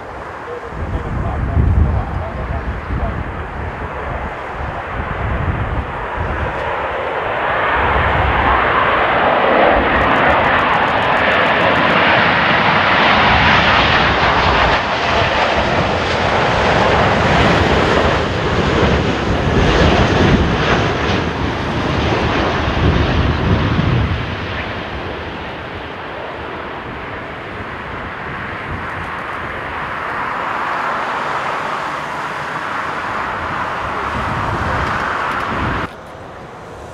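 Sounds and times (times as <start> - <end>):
jet engines rushing: 0.0 - 36.9.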